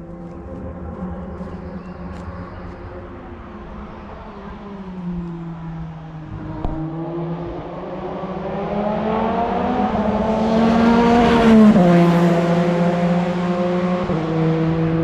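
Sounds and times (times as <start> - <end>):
racing car engine: 0.0 - 15.0.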